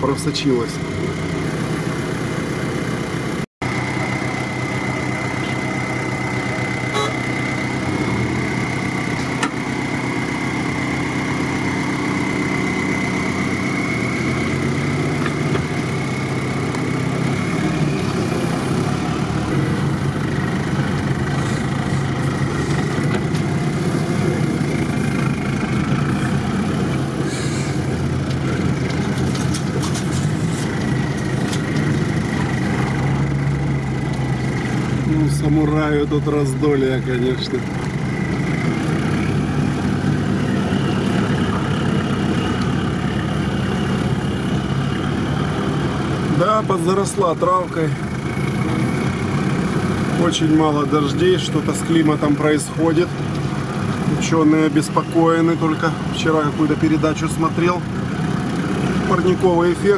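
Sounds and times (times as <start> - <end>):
engines running at low revs: 0.0 - 59.9
high whine: 0.5 - 53.6.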